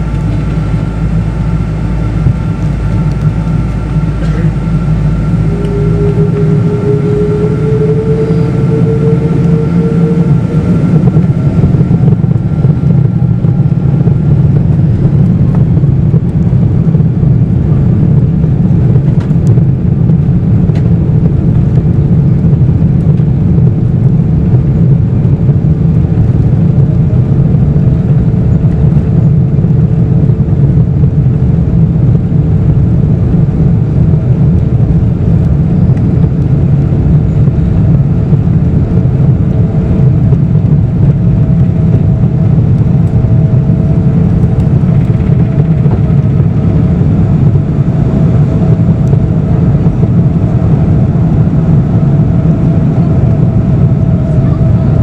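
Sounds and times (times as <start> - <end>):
airplane cabin rumble: 0.0 - 55.0
faint steady hum: 0.0 - 55.0.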